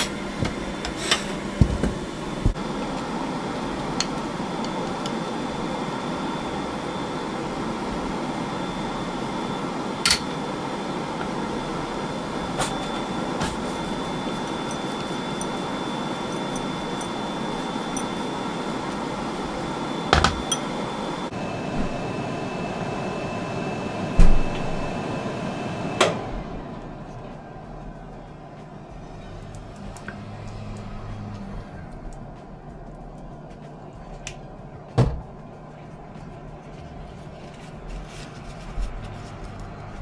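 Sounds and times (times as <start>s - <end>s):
appliance machine hum: 0.0s - 40.0s.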